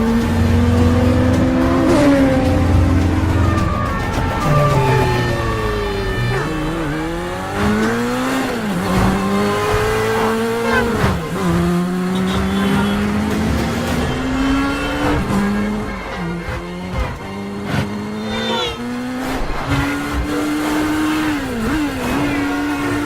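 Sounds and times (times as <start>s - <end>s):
motorcycle engine revving: 0.0s - 23.0s
traffic: 0.0s - 23.0s.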